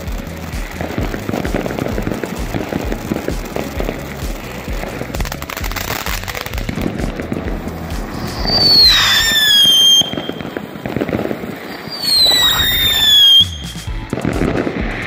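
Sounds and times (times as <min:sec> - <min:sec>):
firework whistles: 0:00.0 - 0:15.0
fireworks hissing and crackling: 0:00.0 - 0:15.0.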